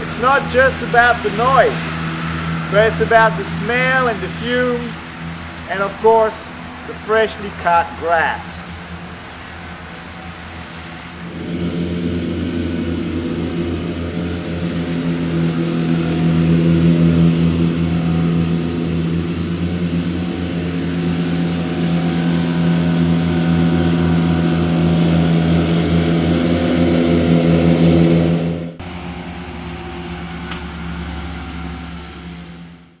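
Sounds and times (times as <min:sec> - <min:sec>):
lawnmower engine running: 0:00.0 - 0:33.0.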